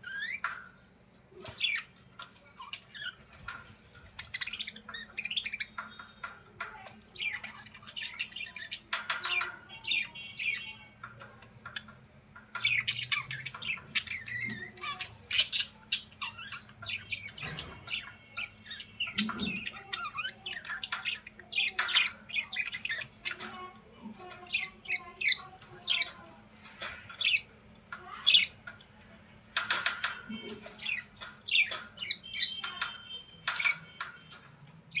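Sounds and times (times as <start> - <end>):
birds squawking and chirping: 0.0 - 35.0.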